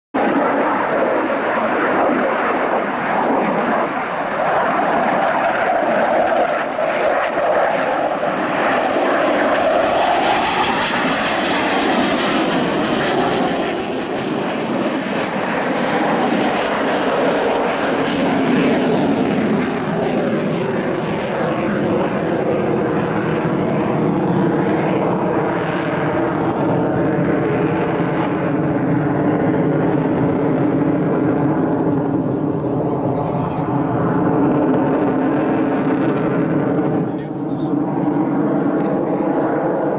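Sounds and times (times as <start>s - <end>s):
aircraft engine running: 0.2s - 39.9s.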